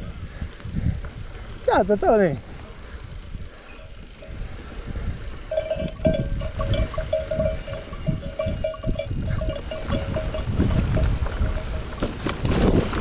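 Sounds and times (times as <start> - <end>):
wind on microphone: 0.0 - 1.6, 2.9 - 13.0
bike tyres rumbling on trail: 0.0 - 13.0.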